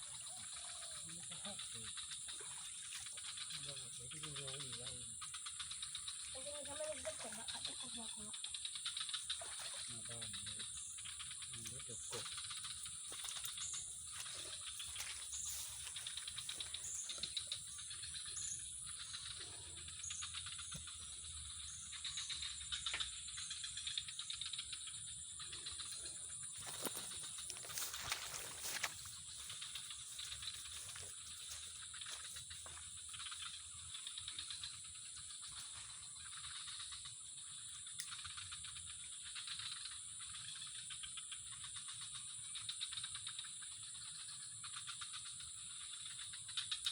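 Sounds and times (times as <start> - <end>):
insect drone: 0.0 - 46.9.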